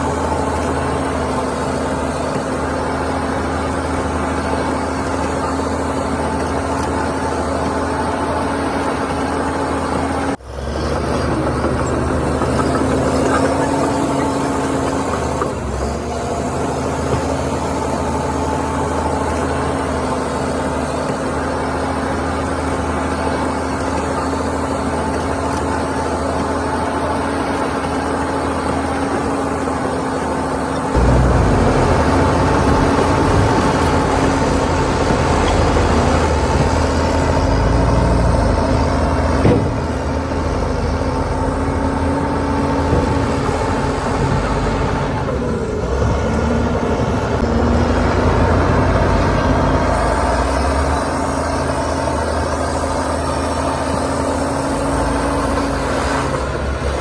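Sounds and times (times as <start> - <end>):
deep engine rumble: 0.0 - 57.0
diesel machinery running: 0.0 - 57.0.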